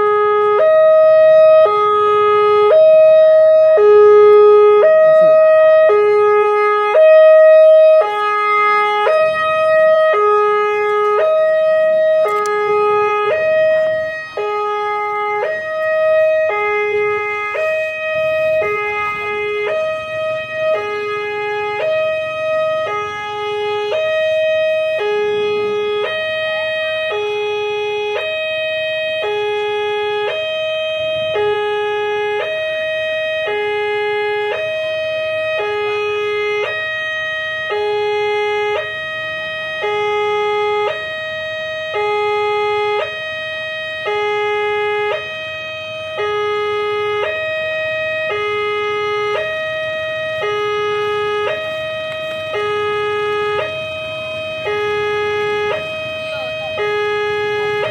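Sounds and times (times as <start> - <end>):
level-crossing two-tone alarm: 0.0 - 57.9.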